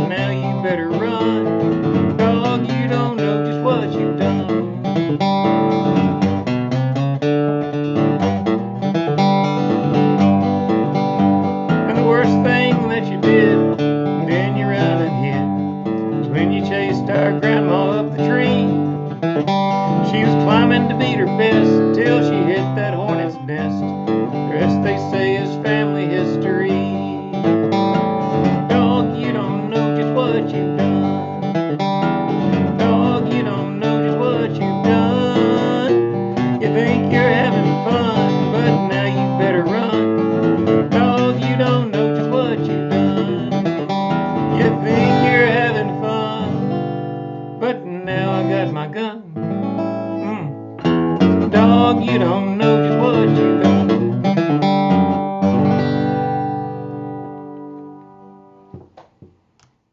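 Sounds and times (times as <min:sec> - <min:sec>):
acoustic guitar picked and strummed: 0:00.0 - 0:59.5.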